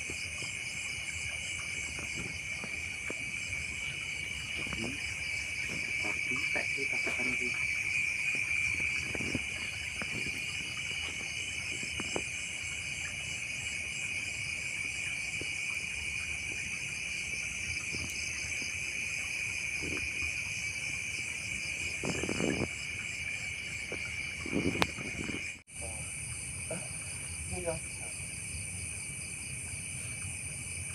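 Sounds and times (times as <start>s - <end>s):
crickets and insects chorus: 0.0s - 30.9s.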